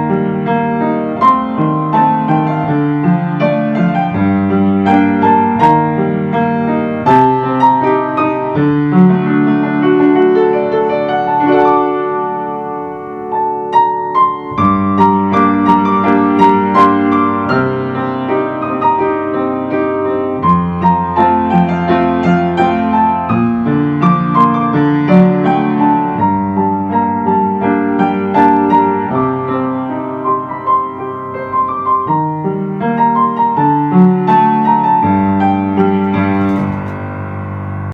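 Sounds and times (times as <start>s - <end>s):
slow mellow piano music: 0.0s - 37.9s.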